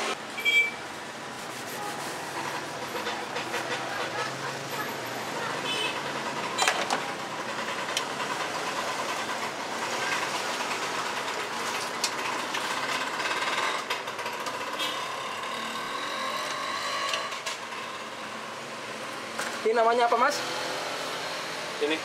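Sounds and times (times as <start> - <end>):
traffic engines running: 0.0 - 22.0.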